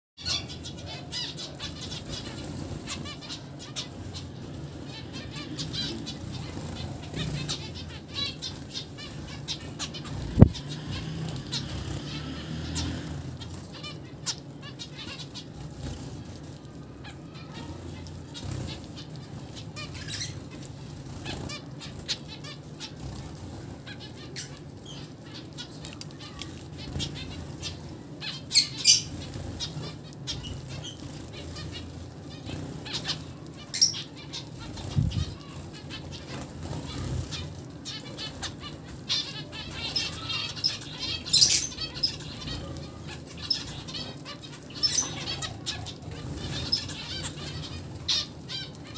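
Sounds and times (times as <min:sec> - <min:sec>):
finch calls and chirps: 0:00.2 - 0:48.9
finches fluttering wings: 0:00.3 - 0:48.9.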